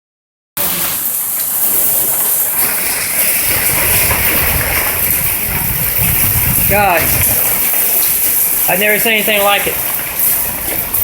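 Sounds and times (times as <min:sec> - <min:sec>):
heavy hail and rain pouring: 0:00.6 - 0:11.0.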